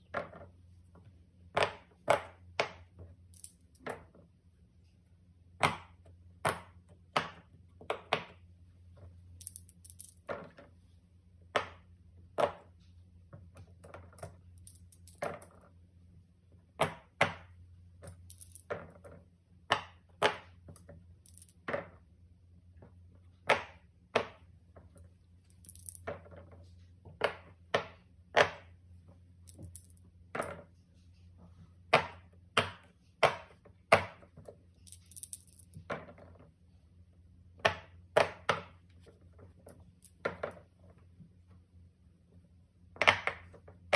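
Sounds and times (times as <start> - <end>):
faint low hum: 0.0 - 43.9.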